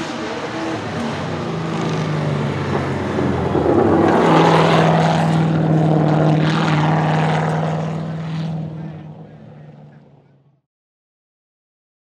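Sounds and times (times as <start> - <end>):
car engine at high revs: 0.0 - 10.3.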